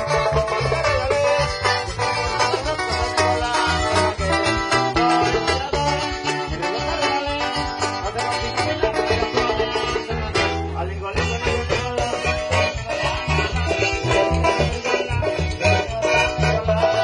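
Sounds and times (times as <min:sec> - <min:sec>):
plucked-string melody: 0:00.0 - 0:17.0
pulsing bass line: 0:00.0 - 0:17.0
upbeat latin dance music: 0:00.0 - 0:17.0.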